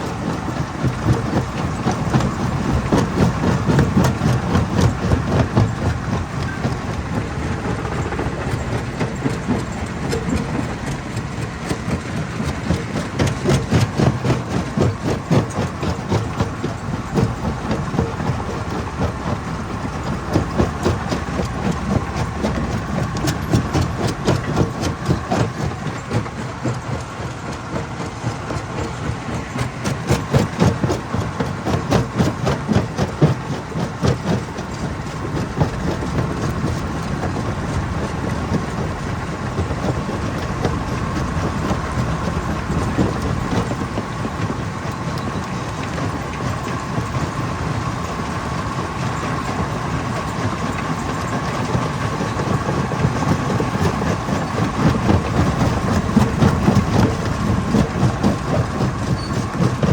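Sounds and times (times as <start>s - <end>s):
hammer crusher humming: 0.0s - 59.9s.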